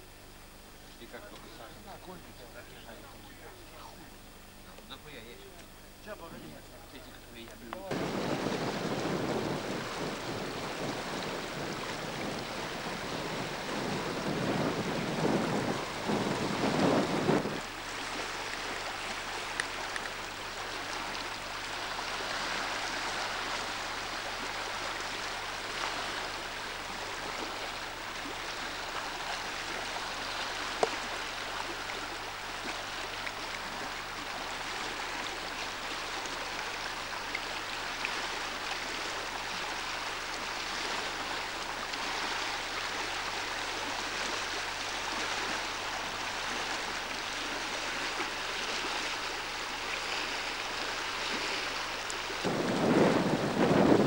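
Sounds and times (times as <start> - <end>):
waves lapping on stony shore: 7.4 - 54.0.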